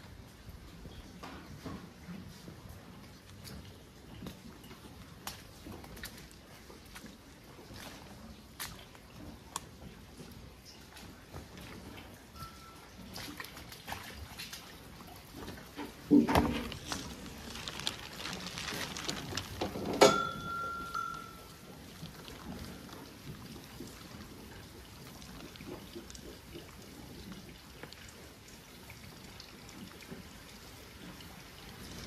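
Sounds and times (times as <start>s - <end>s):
water running and dripping: 0.0s - 32.0s.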